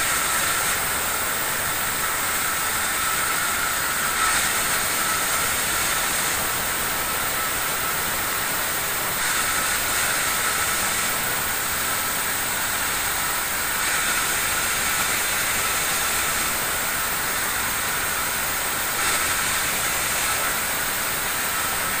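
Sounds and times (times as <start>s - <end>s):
band saw cutting wood: 0.0s - 22.0s.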